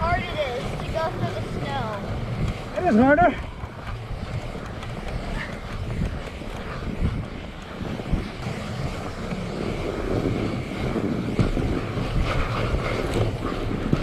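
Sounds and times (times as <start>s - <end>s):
bike rolling through snow: 0.0s - 14.0s
wind buffeting microphone: 0.0s - 14.0s.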